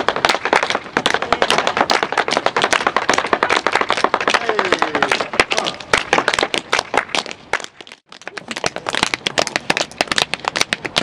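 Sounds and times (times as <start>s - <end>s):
tap shoes tapping on boards: 0.0s - 11.0s.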